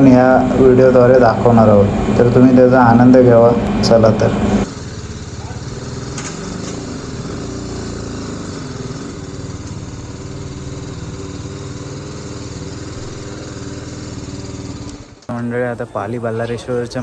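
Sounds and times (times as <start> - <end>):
wind and road noise: 0.0 - 15.3
motorcycle engine running: 0.0 - 15.8.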